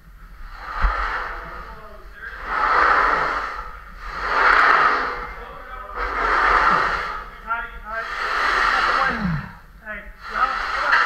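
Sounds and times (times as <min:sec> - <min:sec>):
person breathing hard: 0:00.4 - 0:11.0.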